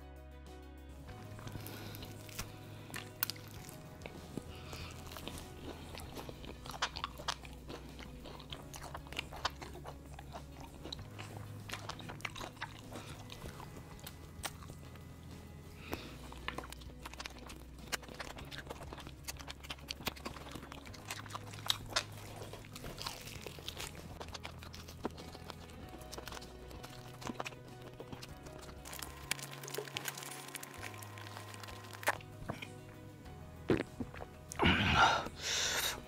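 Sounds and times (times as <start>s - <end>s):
crunching fried chicken: 1.2s - 32.8s
wet chewing: 1.2s - 36.0s.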